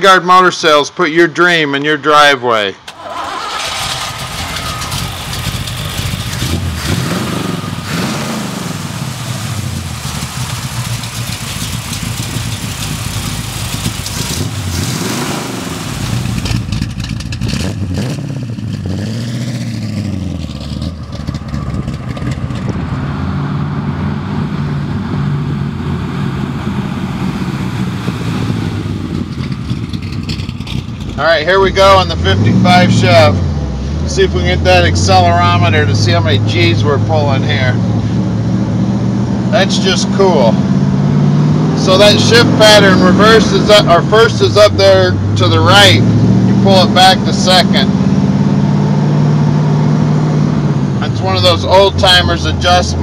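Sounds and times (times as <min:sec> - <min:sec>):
car engine revving: 0:02.8 - 0:53.0.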